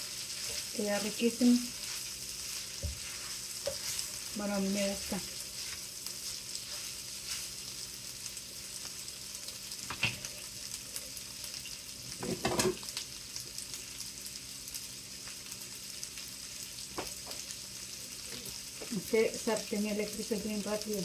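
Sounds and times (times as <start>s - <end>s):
rice sizzling in a skillet: 0.0s - 21.0s.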